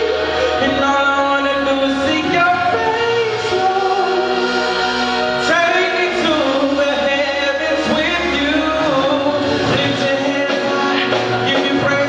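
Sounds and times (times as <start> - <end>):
accompanying music: 0.0 - 12.0
man singing gospel song: 0.0 - 12.0.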